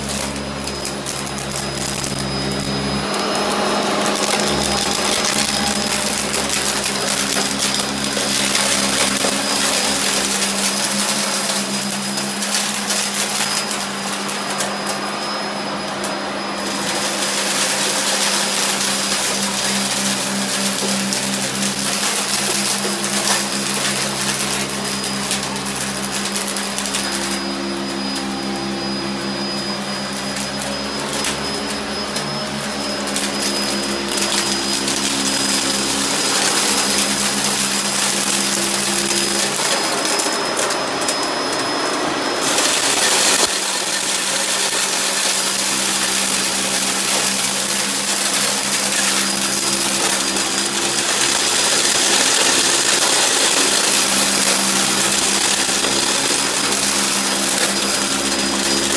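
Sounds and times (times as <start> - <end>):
upright vacuum cleaner running: 0.0 - 58.9.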